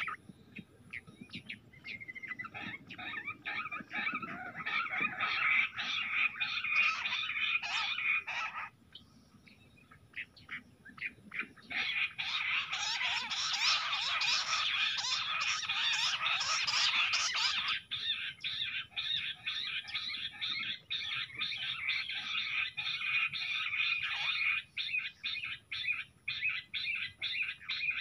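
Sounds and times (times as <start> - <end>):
quails calling: 0.0 - 28.0.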